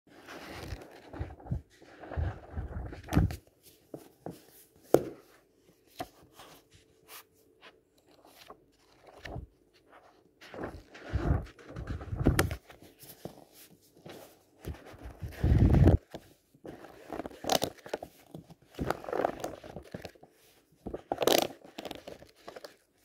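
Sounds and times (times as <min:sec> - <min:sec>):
book pages flipping: 0:00.1 - 0:23.0.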